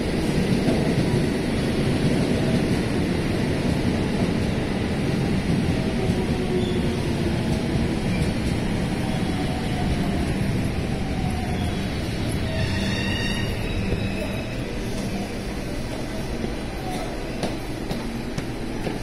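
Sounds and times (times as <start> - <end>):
train rumble and hiss: 0.0 - 19.0.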